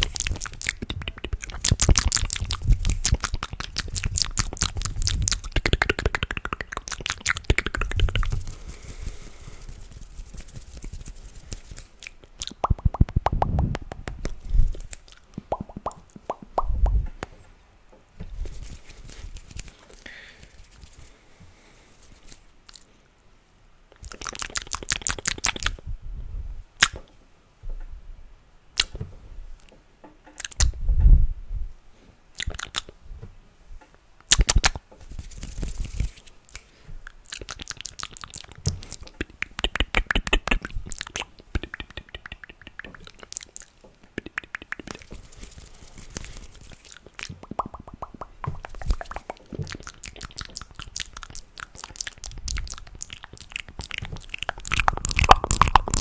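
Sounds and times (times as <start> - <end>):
mouth clicks and smacks: 0.0 - 17.4, 18.2 - 22.9, 23.9 - 25.8, 26.8 - 27.2, 28.8 - 29.0, 30.3 - 30.8, 32.3 - 33.0, 34.2 - 56.0.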